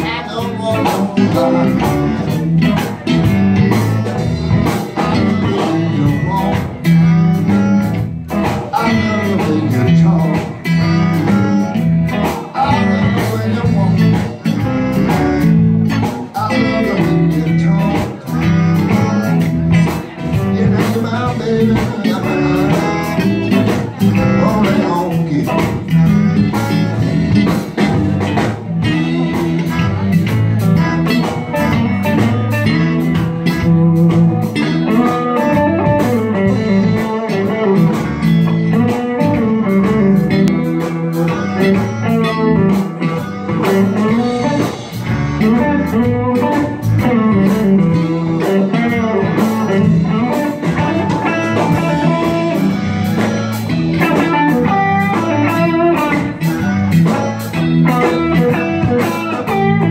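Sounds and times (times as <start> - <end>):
blues band playing: 0.0 - 59.9
electric guitar lead: 0.0 - 59.9.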